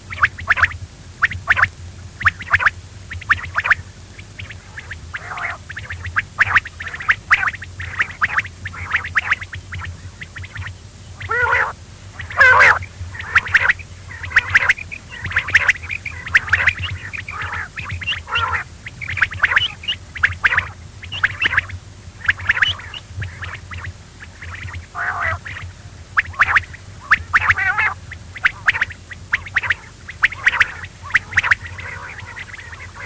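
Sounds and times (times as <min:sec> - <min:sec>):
quail calling: 0:00.0 - 0:33.0
steady low hum: 0:00.0 - 0:33.0.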